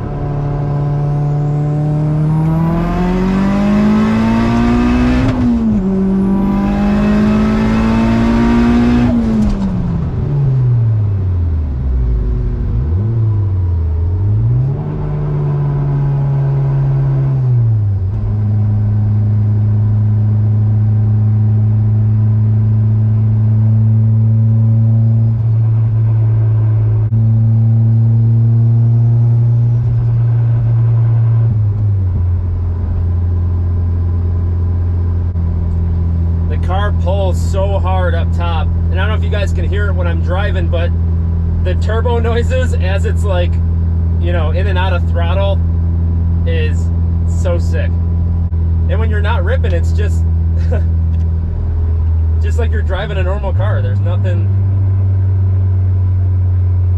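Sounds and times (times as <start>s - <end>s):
car engine accelerating hard: 0.0s - 56.9s.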